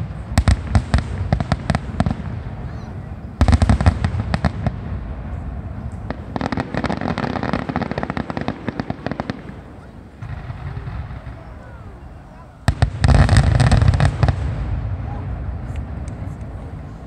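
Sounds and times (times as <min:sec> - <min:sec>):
fireworks booming: 0:00.0 - 0:17.0
fireworks crackling pops: 0:00.0 - 0:17.0.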